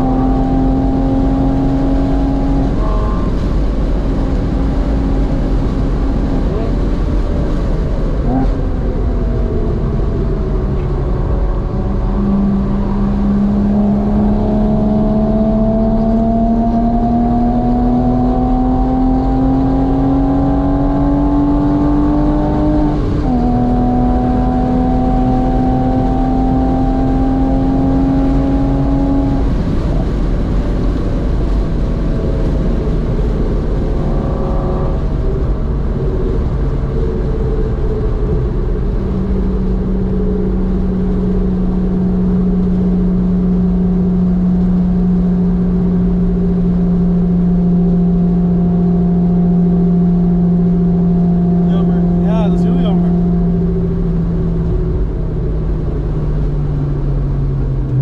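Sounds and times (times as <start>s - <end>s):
car engine pulling through gears: 0.0s - 58.0s
road and wind noise: 0.0s - 58.0s.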